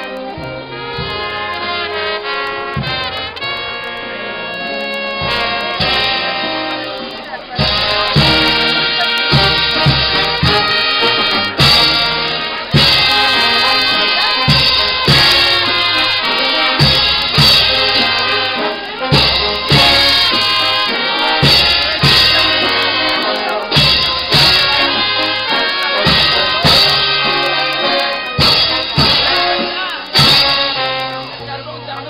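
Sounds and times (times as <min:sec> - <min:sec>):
drum beat: 0:00.0 - 0:31.6
brass band playing: 0:00.0 - 0:32.0.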